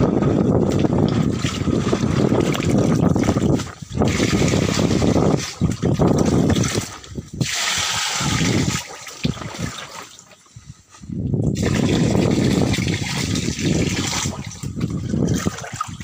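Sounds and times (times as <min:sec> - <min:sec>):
water pouring and splashing into pond: 0:00.0 - 0:10.6, 0:11.4 - 0:16.0.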